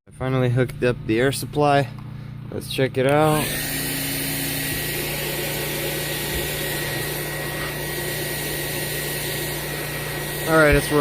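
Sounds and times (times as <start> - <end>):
air blower whining and humming: 0.3 - 11.0.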